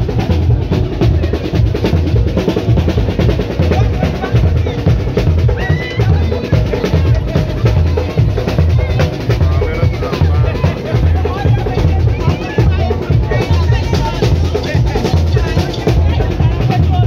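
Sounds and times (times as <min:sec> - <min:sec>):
loud music with heavy drum beat: 0:00.0 - 0:17.0.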